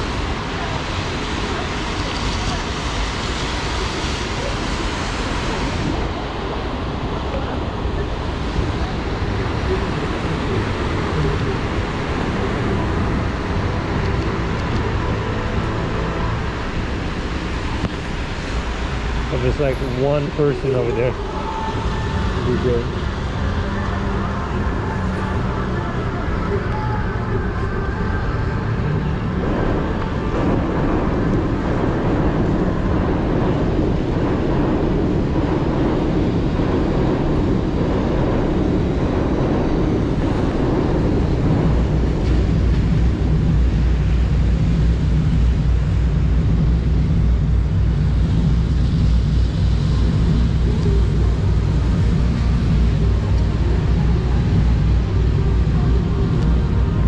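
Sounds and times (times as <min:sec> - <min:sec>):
deep steady rumble: 0:00.0 - 0:57.0
traffic on wet road: 0:00.0 - 0:57.0.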